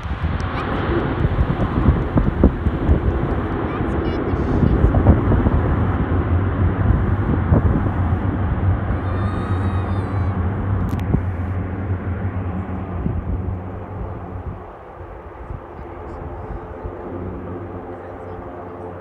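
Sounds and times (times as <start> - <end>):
turboprop aircraft droning: 0.0 - 19.0.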